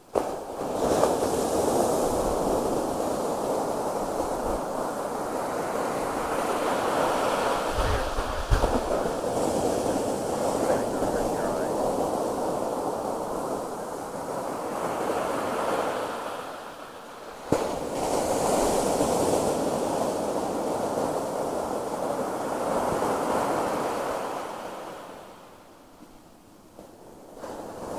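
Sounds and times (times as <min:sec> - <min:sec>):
surf breaking on beach: 0:00.0 - 0:25.8, 0:26.8 - 0:27.9.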